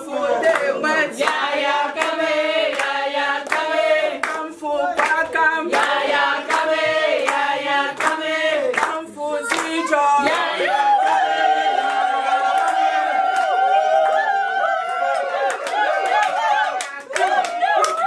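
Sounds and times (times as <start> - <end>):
women singing together: 0.0 - 18.0
hands clapping in steady beat: 0.3 - 18.0.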